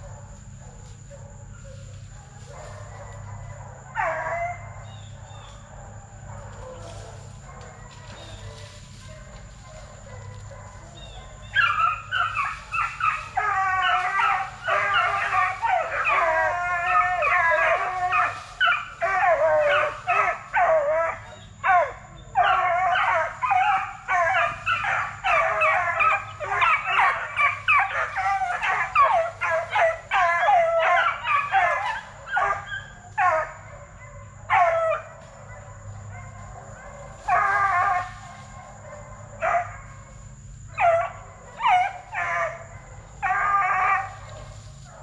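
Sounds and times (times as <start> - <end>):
hounds baying: 0.0 - 45.0.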